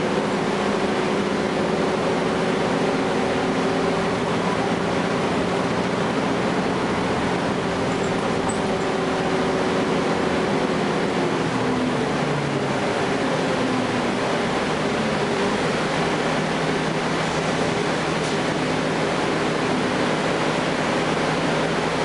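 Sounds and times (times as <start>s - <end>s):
bus diesel engine drone: 0.0s - 22.0s
road noise: 0.0s - 22.0s.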